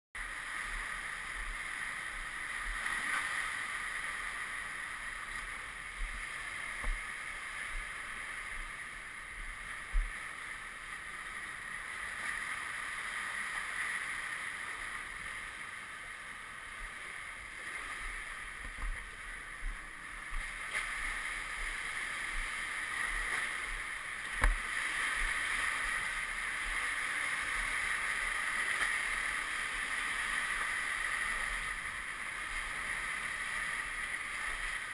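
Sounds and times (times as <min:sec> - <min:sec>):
steady rushing noise: 0:00.2 - 0:34.9.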